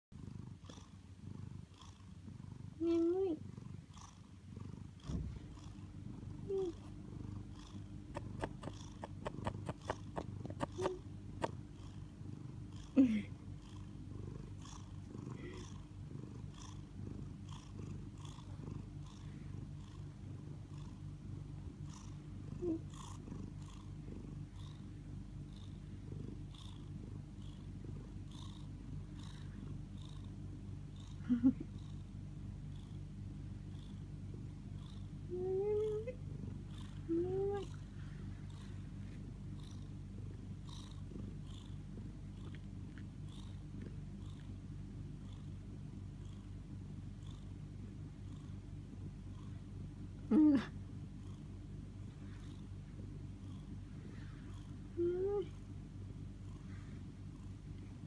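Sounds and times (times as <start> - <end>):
cat purring: 0.1 - 58.0.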